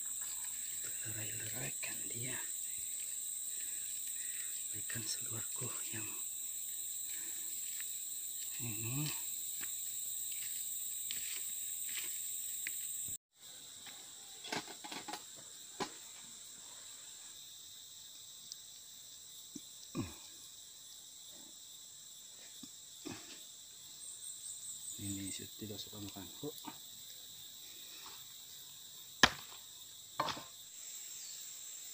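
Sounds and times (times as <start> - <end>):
high-pitched insect drone: 0.0 - 29.1, 29.7 - 31.9.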